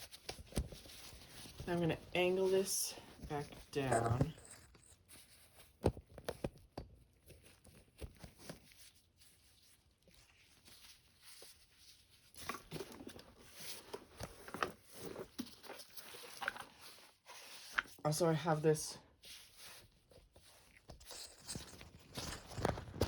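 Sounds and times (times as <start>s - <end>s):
rustling: 0.0s - 18.0s, 19.1s - 23.0s.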